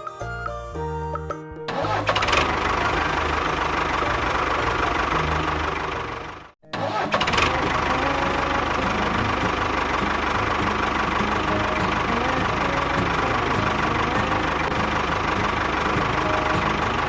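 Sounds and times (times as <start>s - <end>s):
engine running: 1.1s - 17.0s.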